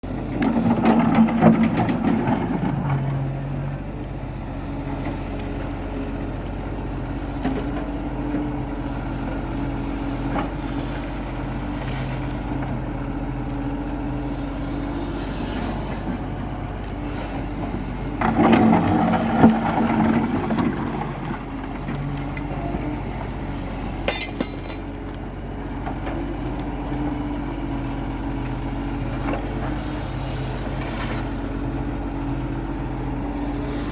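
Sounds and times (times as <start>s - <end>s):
heavy machinery engine running: 0.0s - 33.9s.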